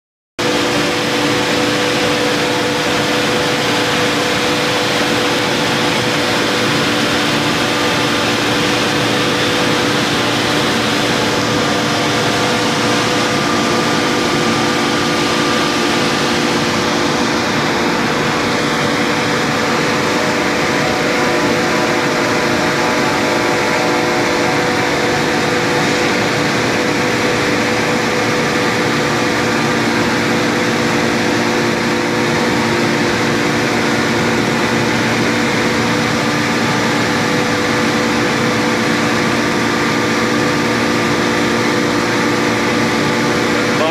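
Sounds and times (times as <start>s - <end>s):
constant multi-tone hum: 0.4s - 43.9s
furnace burners roaring: 0.4s - 43.9s.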